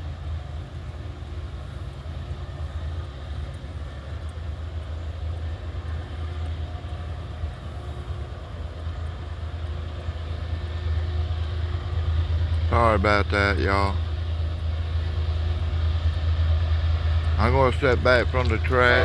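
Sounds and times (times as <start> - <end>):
diesel locomotive engine rumbling: 0.0 - 19.0.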